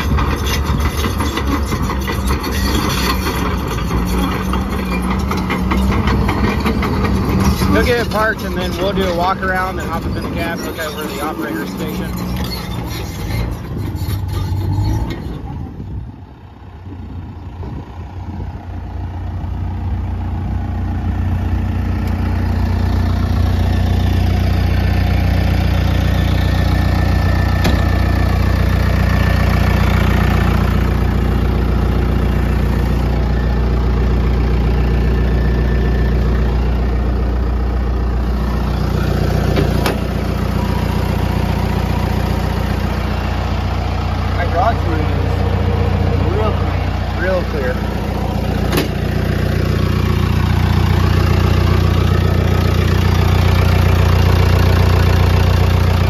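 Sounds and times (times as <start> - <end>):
diesel dozer engine idling: 0.0 - 56.0.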